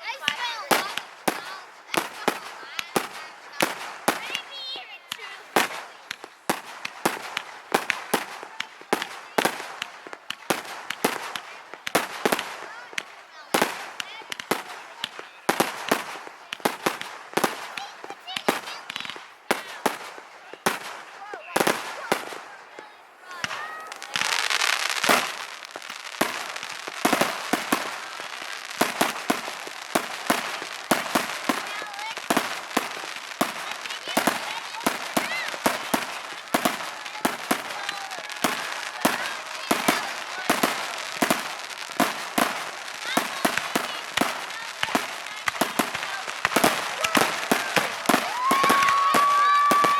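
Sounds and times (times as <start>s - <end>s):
fireworks bangs and crackling pops: 0.0s - 49.9s.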